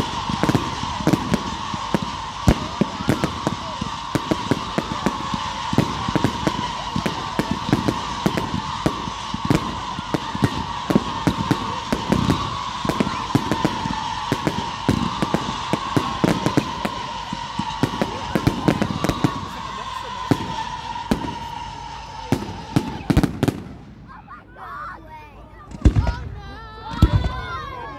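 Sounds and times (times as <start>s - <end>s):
fireworks cracking and popping: 0.0s - 24.3s, 25.7s - 27.9s.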